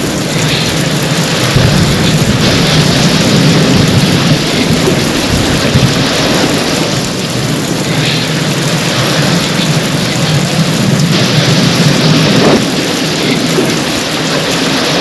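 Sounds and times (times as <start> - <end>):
heavy rain: 0.0 - 15.0
thunder rumbling: 0.0 - 15.0.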